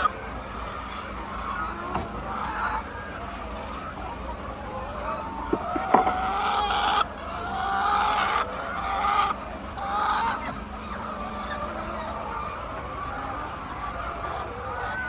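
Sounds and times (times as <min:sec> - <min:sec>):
chickens calling: 0:00.0 - 0:15.0.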